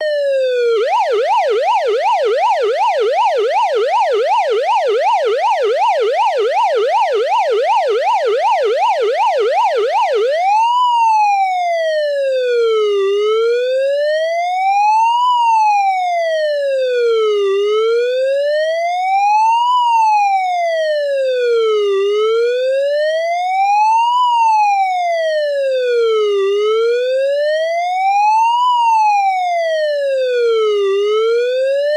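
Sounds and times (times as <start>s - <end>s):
police car siren: 0.0s - 31.9s.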